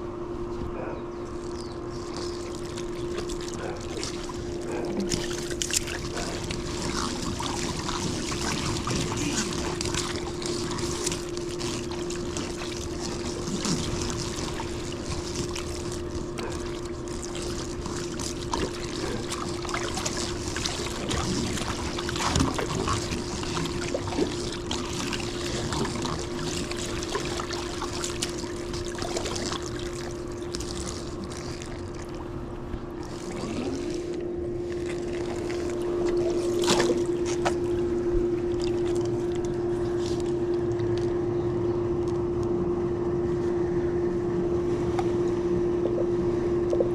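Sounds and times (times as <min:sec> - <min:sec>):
pool pump humming: 0:00.0 - 0:46.9
water trickling and splashing: 0:01.9 - 0:34.0, 0:34.8 - 0:40.7.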